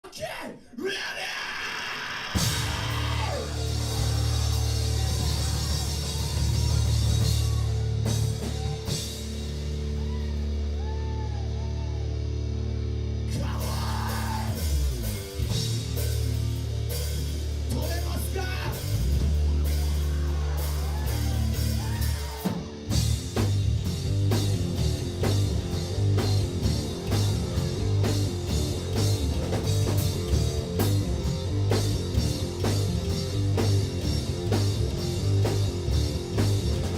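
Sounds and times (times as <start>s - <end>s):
distorted electric guitars: 1.6s - 36.9s
drum kit: 2.2s - 36.9s
rock band playing: 2.3s - 36.9s.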